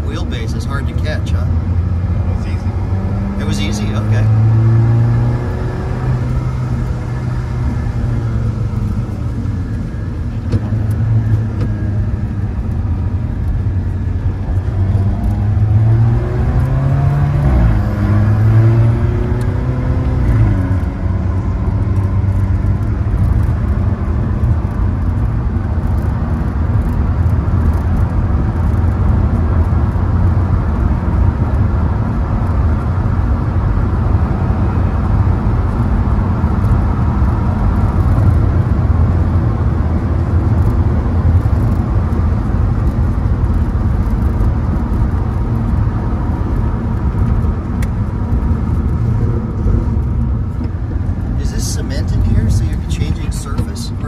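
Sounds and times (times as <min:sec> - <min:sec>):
road noise: 0:00.0 - 0:54.0
sports car engine revving: 0:00.0 - 0:54.0.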